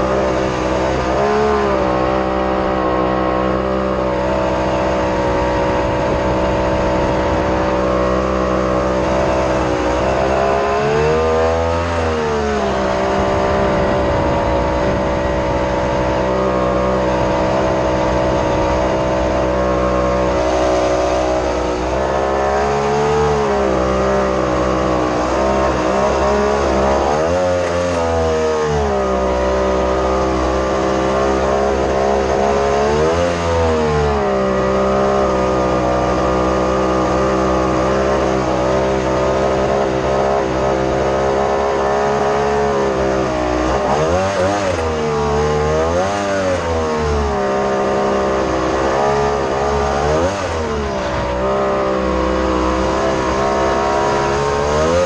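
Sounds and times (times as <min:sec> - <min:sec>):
jetboat engine running hard: 0:00.0 - 0:55.0.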